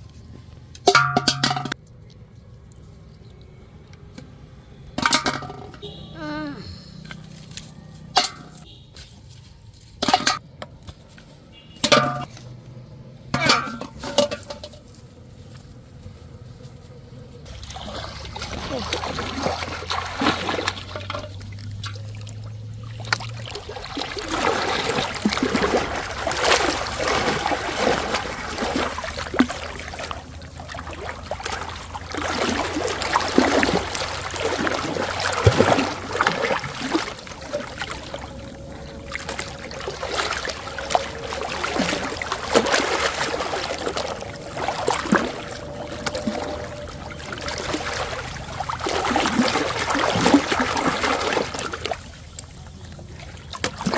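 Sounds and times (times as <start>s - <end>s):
water trickling and splashing: 0.8s - 2.1s, 7.0s - 10.4s, 11.5s - 12.6s, 13.4s - 16.3s, 17.4s - 53.9s.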